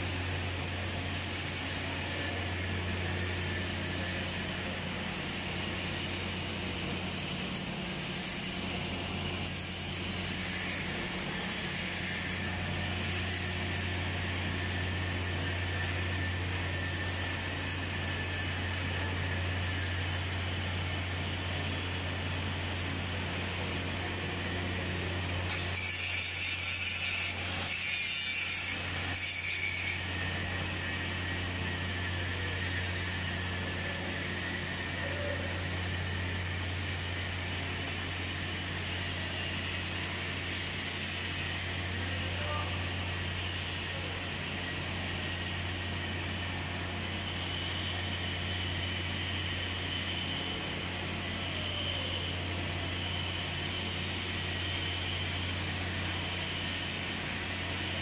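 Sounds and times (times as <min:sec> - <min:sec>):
welder electrical hum and hiss: 0:00.0 - 0:58.0.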